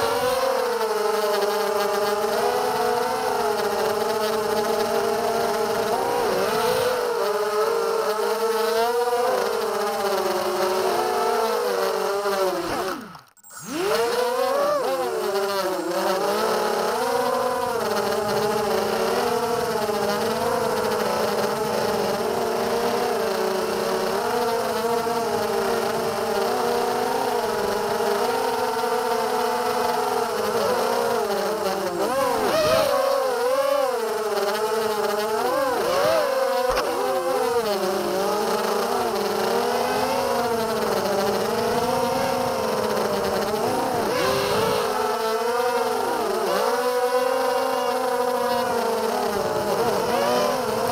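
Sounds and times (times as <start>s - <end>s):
quadcopter motors buzzing whine: 0.0s - 50.9s.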